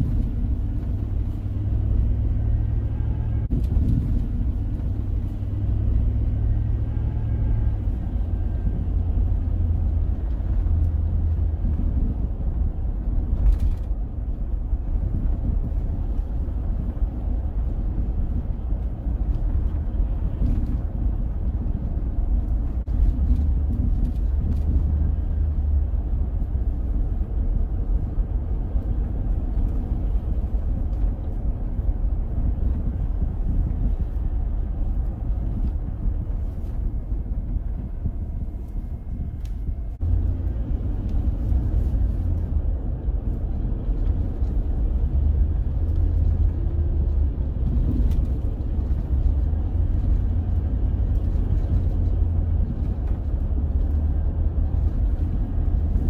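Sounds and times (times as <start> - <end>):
road and engine rumble inside car: 0.0 - 56.0.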